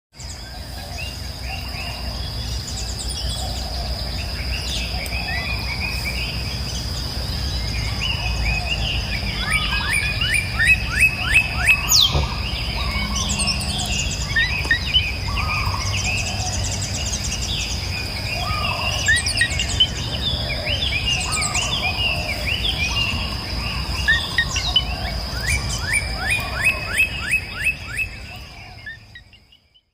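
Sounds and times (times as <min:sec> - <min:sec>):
small birds chirping: 0:00.2 - 0:29.9.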